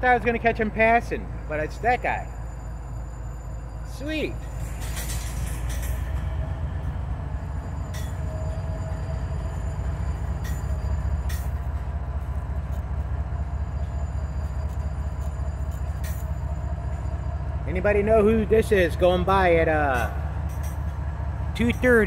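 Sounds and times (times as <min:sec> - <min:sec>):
diesel locomotive engine rumble: 0:00.0 - 0:22.0.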